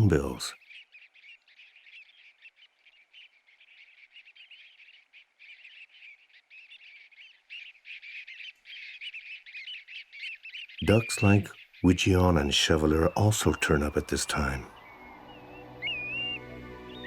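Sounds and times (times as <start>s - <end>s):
shorebirds chirping: 0.0s - 17.0s.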